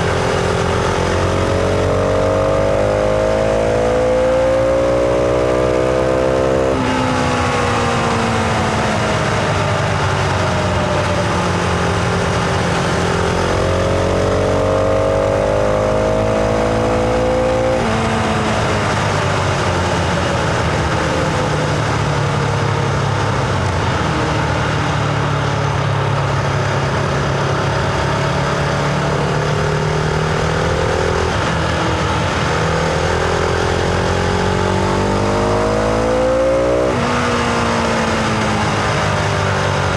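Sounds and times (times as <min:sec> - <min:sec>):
motorcycle engine and exhaust: 0:00.0 - 0:39.9
wind and road noise: 0:00.0 - 0:39.9.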